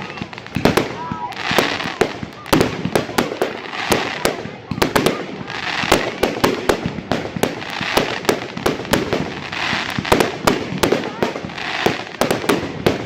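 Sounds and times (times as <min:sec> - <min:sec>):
fireworks bangs: 0:00.0 - 0:13.0
fireworks hissing: 0:00.0 - 0:13.0.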